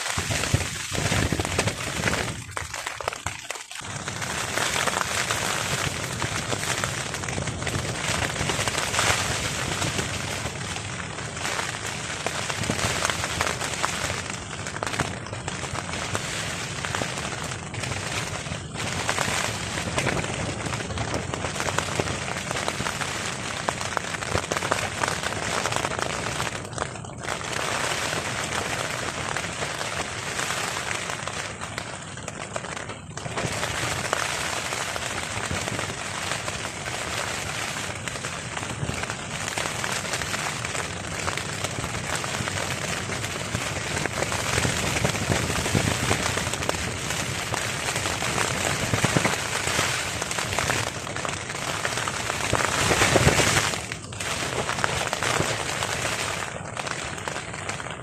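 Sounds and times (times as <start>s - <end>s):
heavy rain on a tarp: 0.0s - 58.0s.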